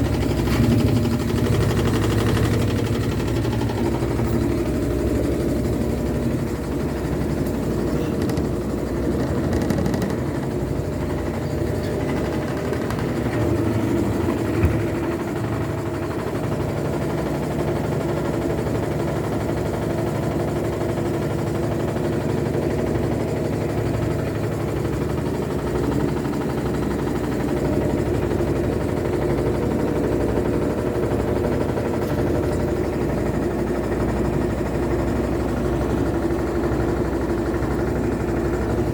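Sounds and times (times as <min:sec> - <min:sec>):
machine running with pitched hum: 0:00.0 - 0:38.9.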